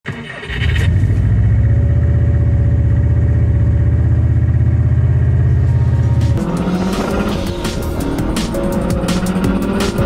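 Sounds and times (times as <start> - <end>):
car engine starting and running: 0.0 - 10.0.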